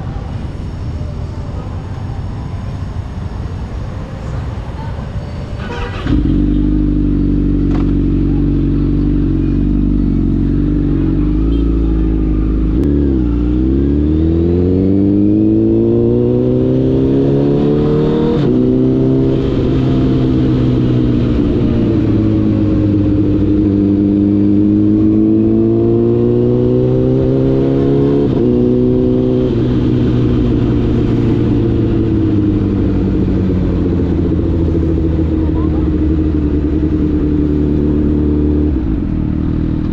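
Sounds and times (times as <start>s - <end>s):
motorcycle engine accelerating: 5.6s - 39.9s.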